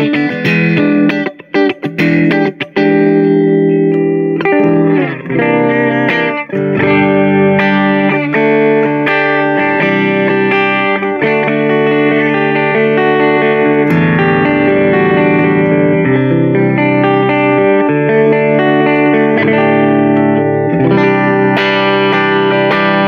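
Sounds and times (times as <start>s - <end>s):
electric guitar through amplifier: 0.0s - 23.0s.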